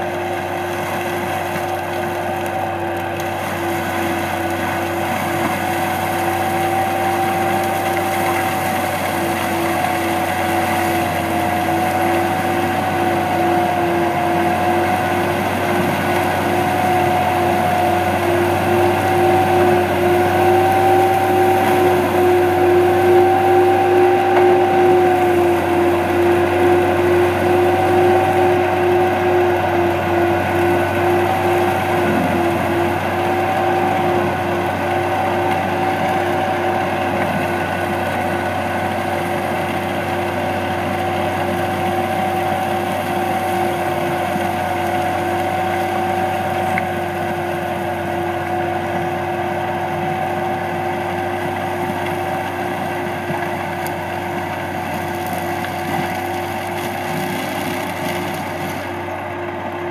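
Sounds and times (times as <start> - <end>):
mulcher grinding soil and brush: 0.0 - 59.9.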